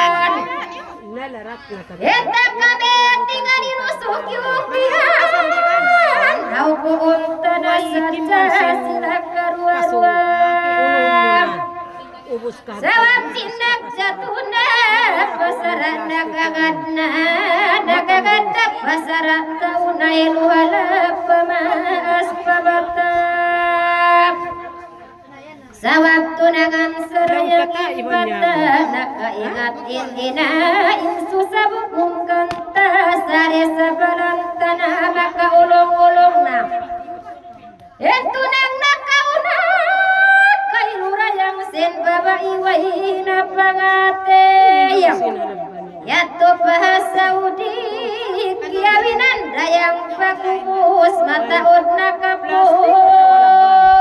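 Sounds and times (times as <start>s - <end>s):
high voice singing with vibrato: 0.0s - 1.1s, 1.9s - 54.0s.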